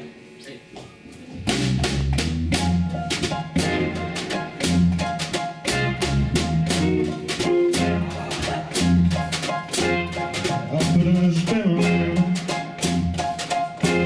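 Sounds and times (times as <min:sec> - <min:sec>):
drum kit steady beat: 0:01.2 - 0:14.0
band playing a song: 0:01.4 - 0:14.0.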